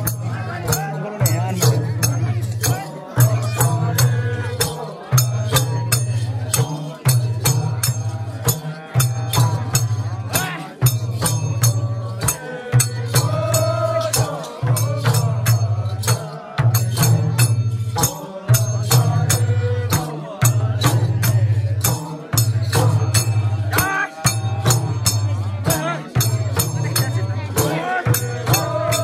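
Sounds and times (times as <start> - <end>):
drum beating low rhythm: 0.0 - 29.0
jingling percussion: 0.0 - 29.0.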